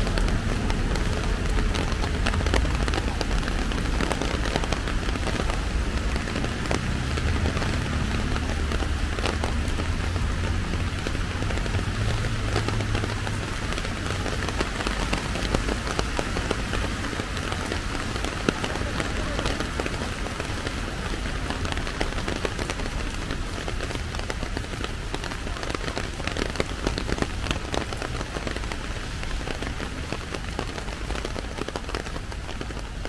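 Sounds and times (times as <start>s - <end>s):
heavy rain on an umbrella: 0.0s - 33.0s.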